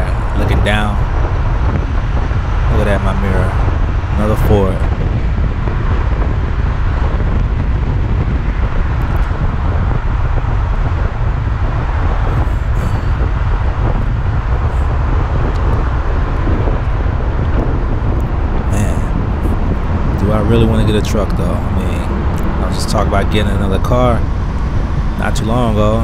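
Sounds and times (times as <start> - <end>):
diesel truck rumble in cab: 0.0 - 26.0.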